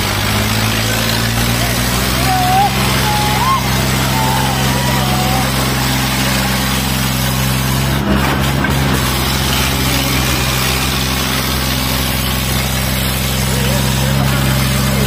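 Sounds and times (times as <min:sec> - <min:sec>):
tractor diesel engines straining: 0:00.0 - 0:15.0.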